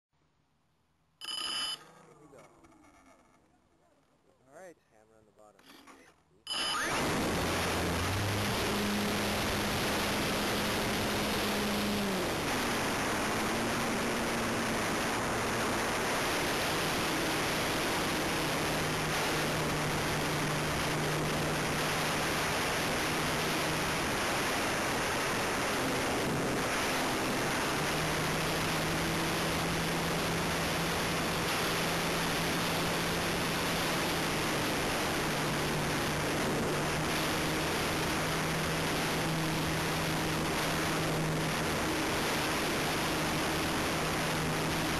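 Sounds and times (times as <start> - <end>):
airplane motor hum: 7.0 - 44.9.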